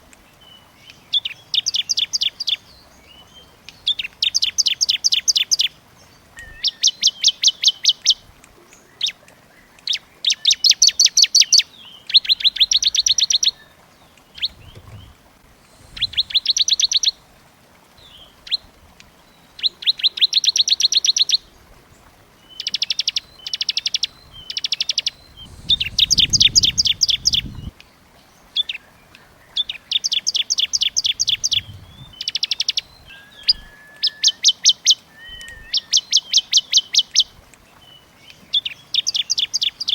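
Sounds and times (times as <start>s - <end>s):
songbird singing dry trills: 0.1s - 39.9s.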